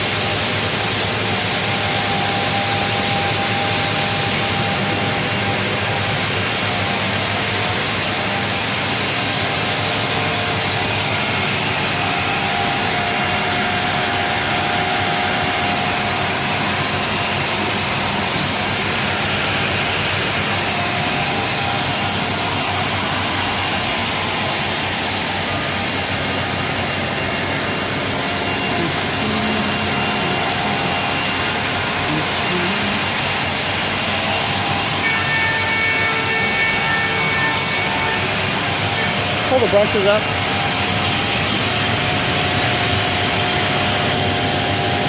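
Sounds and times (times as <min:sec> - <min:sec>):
cnc router running: 0:00.0 - 0:45.0
faint machine whining tones: 0:00.0 - 0:45.0.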